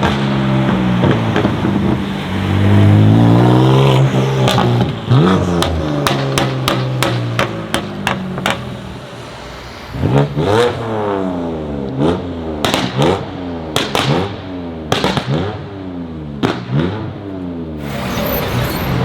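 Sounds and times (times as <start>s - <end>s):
car engine accelerating: 0.0s - 14.4s, 17.8s - 19.0s.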